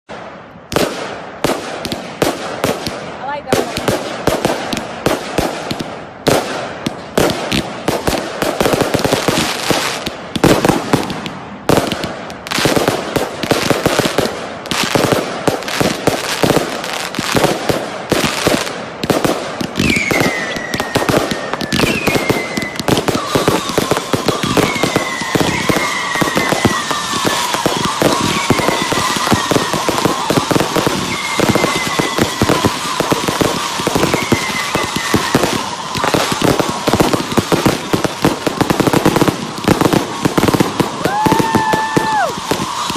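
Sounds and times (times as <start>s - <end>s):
fireworks bangs and crackling: 0.0s - 42.9s
whistling fireworks: 0.1s - 42.9s.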